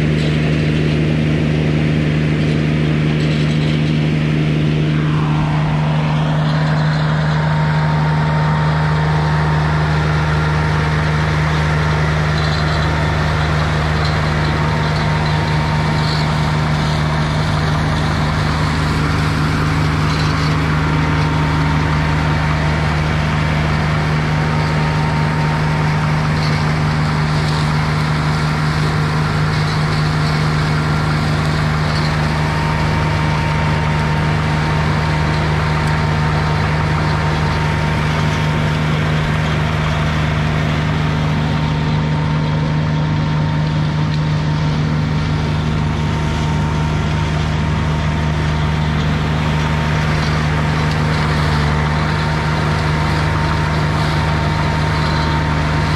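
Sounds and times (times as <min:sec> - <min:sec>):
faint even whine: 0:00.0 - 0:55.9
slope mower engine humming: 0:00.0 - 0:55.9.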